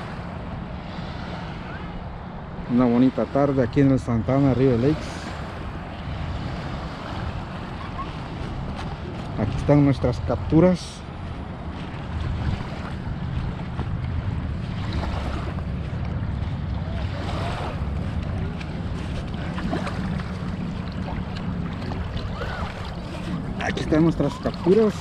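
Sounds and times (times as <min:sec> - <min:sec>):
small waves lapping: 0:00.0 - 0:25.0
wind buffeting microphone: 0:00.0 - 0:25.0.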